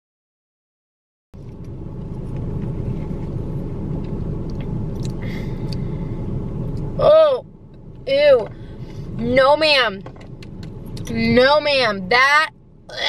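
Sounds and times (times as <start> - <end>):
car engine idling: 1.4 - 13.0.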